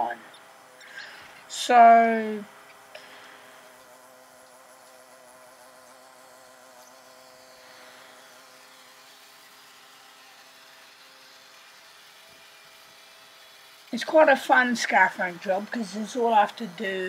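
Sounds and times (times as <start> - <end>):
faint small petrol engine running: 0.0 - 17.0.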